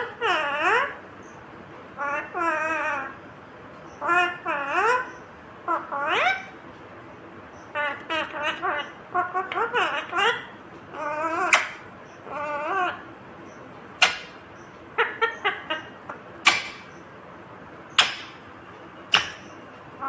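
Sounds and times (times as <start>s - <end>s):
parakeet squawking and chirping: 0.0s - 6.6s, 7.7s - 13.0s, 14.0s - 17.0s, 17.9s - 20.0s.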